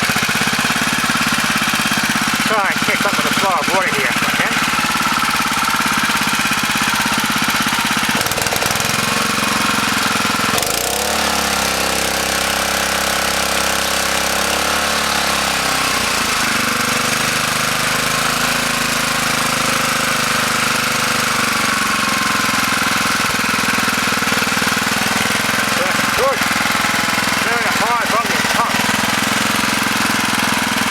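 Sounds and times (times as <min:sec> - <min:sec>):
water pump engine running: 0:00.0 - 0:30.9.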